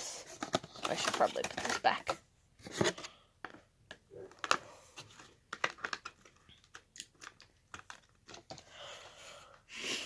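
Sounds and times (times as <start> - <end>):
packaging clicks and taps: 0.4 - 8.7.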